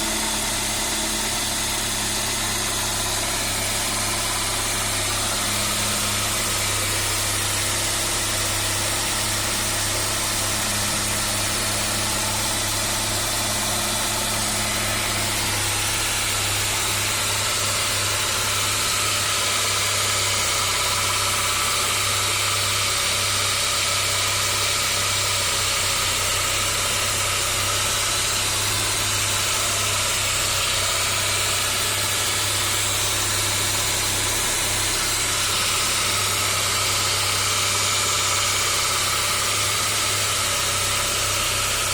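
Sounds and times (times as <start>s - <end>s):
car engine idling: 0.0s - 41.9s
engine rattling: 0.0s - 41.9s.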